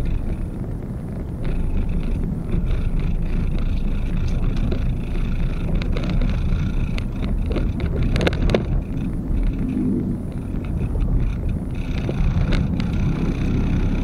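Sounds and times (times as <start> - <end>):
vehicle road rumble: 0.0 - 14.0
clicks and rattles: 1.4 - 13.6.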